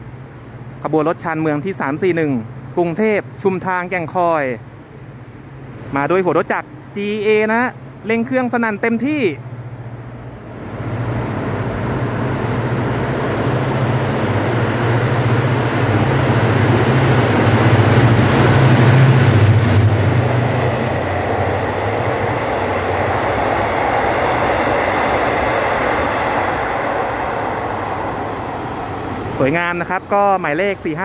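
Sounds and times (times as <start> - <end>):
diesel locomotive engine drone: 0.0 - 31.0
train coaches rumbling and clattering: 0.0 - 31.0.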